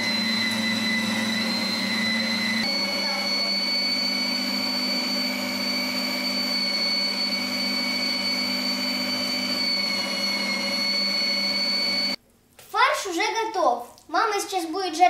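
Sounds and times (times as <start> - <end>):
electric meat grinder whining: 0.0 - 12.2.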